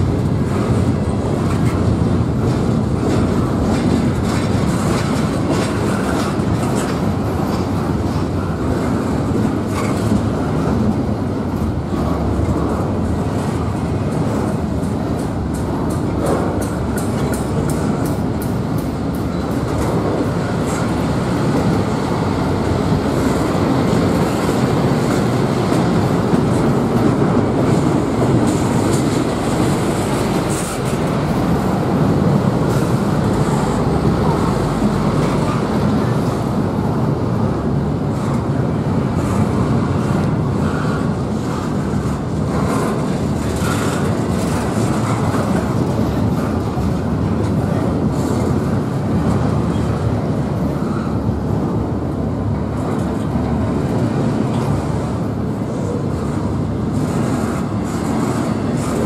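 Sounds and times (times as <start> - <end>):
freight train rumbling past: 0.0 - 59.0
wheels clicking over rail joints: 0.0 - 59.0.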